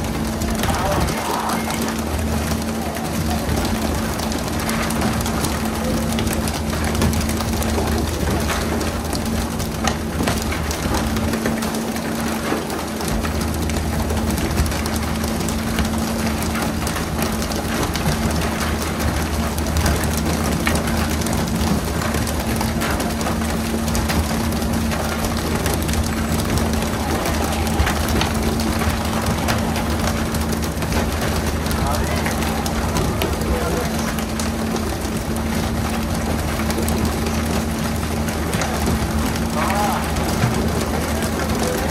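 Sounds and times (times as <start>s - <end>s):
boat engine humming: 0.0s - 41.9s
water spraying onto sea: 0.0s - 41.9s
fish slapping on deck: 0.2s - 41.9s.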